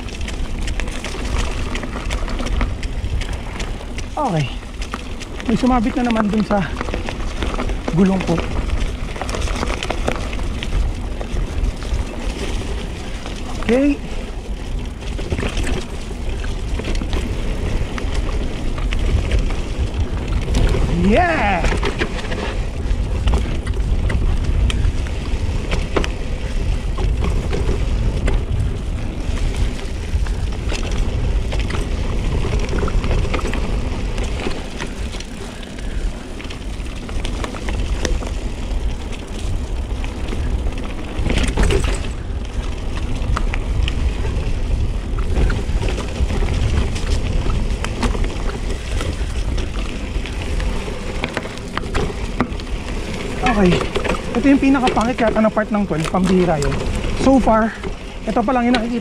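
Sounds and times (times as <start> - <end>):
bike rattling: 0.0 - 59.0
tyres rolling over stones: 0.0 - 59.0
wind rumble on microphone: 0.0 - 59.0.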